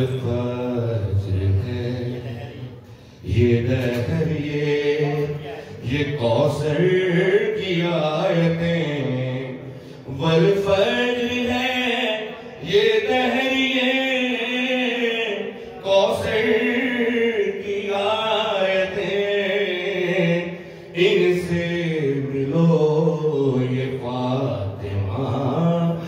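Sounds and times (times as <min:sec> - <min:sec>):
man chanting into a microphone: 0:00.0 - 0:26.0.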